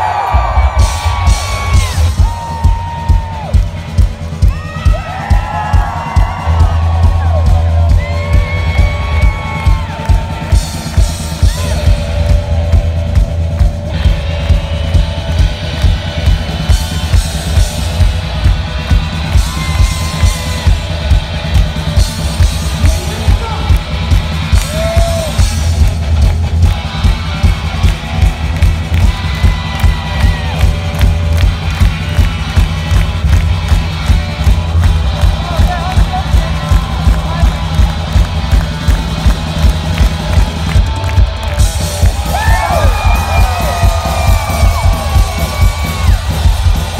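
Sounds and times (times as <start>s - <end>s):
drum kit beat: 0.0s - 46.9s
electric guitar: 0.0s - 46.9s.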